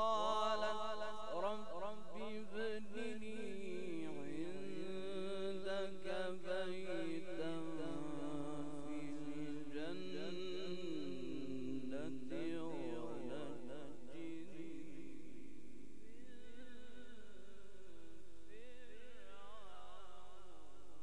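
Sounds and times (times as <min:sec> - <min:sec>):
man chanting melodically: 0:00.0 - 0:20.7.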